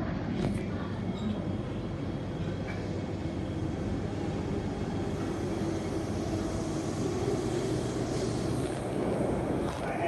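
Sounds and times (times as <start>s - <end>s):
train hum: 0.0s - 10.0s.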